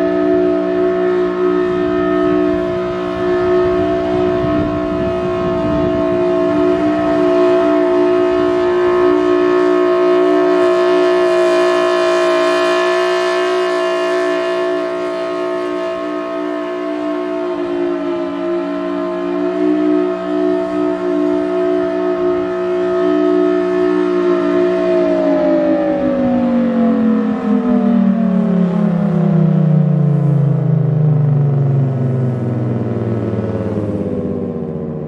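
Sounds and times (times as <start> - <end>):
warning siren multi-tone chord: 0.0 - 35.0.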